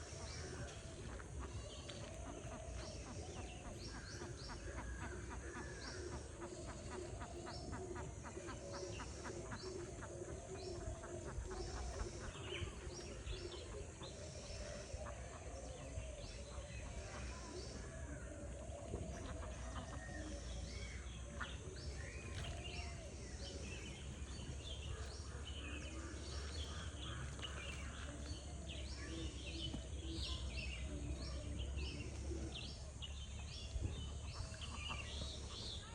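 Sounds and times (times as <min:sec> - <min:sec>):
birds chirping and calling: 0:00.0 - 0:35.9.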